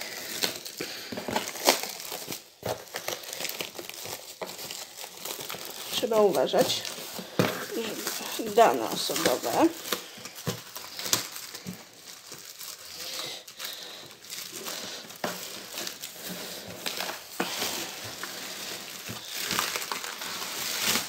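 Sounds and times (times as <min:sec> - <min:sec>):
plastic wrapping crinkling: 0:00.0 - 0:21.0.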